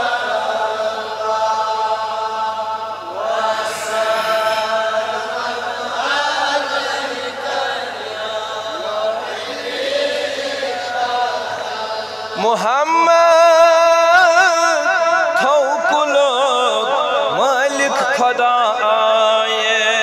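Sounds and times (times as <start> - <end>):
devotional chanting: 0.0 - 20.0
faint steady hum: 0.0 - 20.0.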